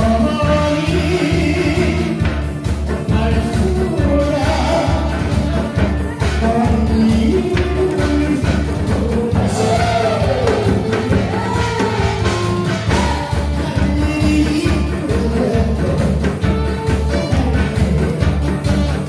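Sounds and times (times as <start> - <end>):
amplified singing: 0.0 - 19.0
band music with drum beat: 0.0 - 19.0.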